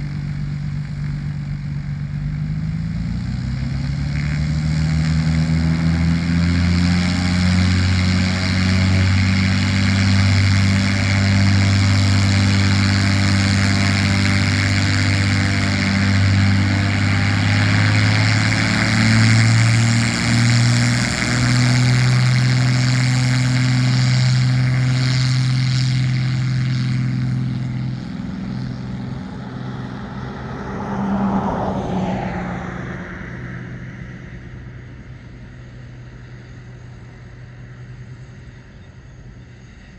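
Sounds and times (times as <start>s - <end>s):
aircraft propeller engines running: 0.0s - 39.9s.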